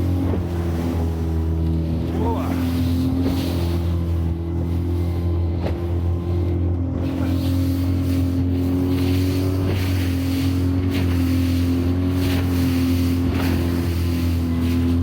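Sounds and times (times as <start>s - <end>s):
hull splashing on water: 0.0s - 15.0s
outboard motor running: 0.0s - 15.0s.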